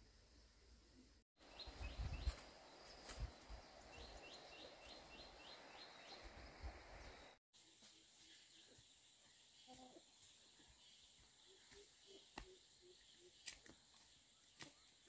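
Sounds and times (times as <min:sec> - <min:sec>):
bird chirping: 0:01.4 - 0:07.4, 0:08.2 - 0:15.0.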